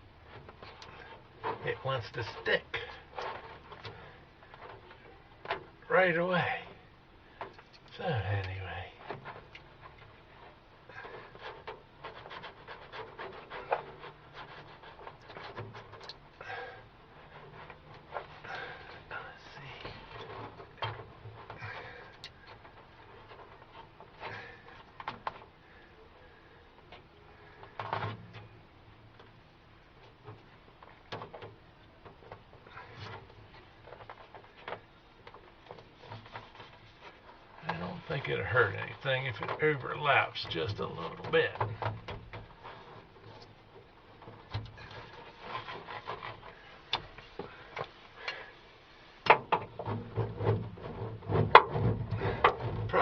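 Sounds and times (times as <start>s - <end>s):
insulation sheet rustling and crinkling: 7.3s - 53.0s.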